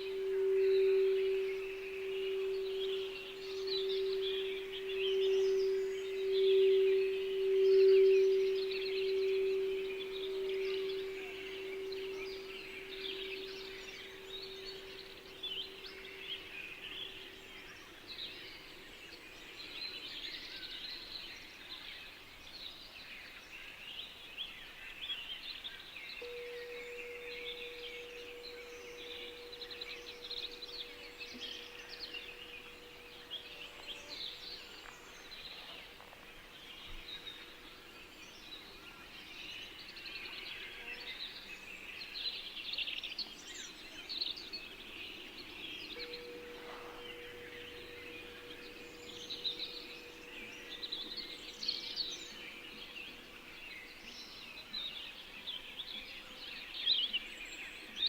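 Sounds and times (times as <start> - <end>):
held meditation tone: 0.0 - 58.0
songbirds chirping and singing: 0.0 - 58.0.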